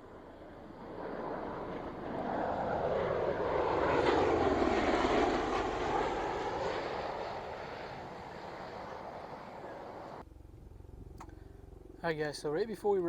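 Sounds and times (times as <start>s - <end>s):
jet aircraft engine roar: 0.0s - 13.0s.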